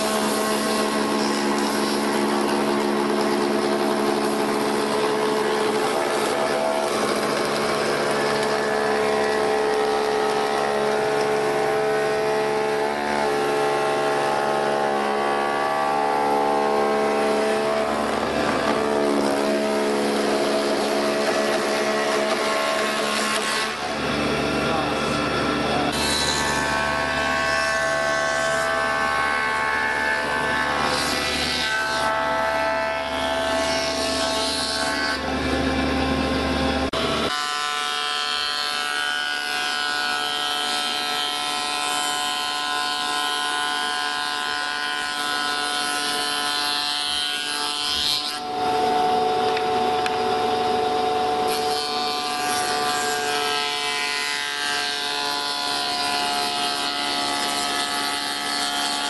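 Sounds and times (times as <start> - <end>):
spindle moulder cutting wood: 0.0 - 59.0.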